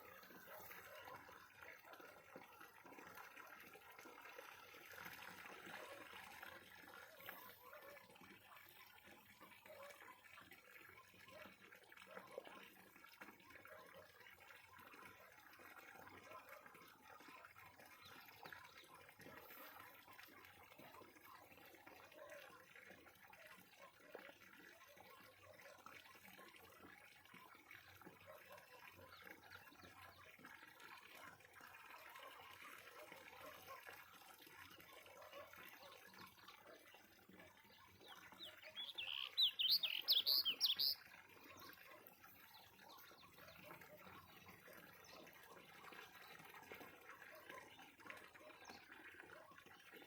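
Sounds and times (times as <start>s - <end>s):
fish splashing and slurping: 0.0s - 50.0s.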